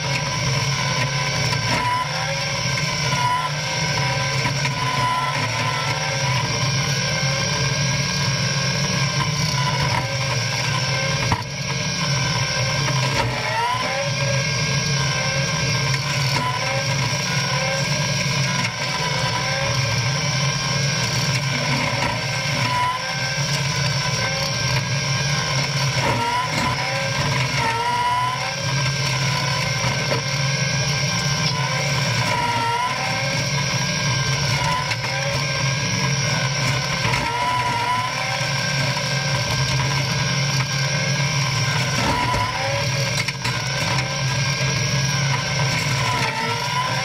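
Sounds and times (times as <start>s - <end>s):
loader engine and hydraulics droning: 0.0s - 47.0s.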